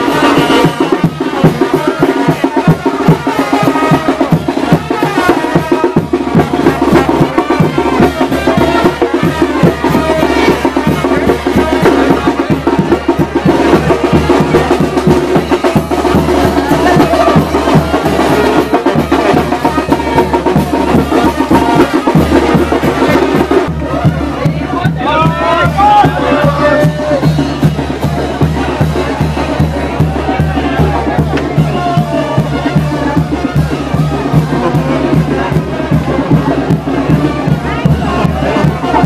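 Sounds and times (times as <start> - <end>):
brass band playing dance music: 0.0 - 39.0
driving drum beat: 0.0 - 39.0.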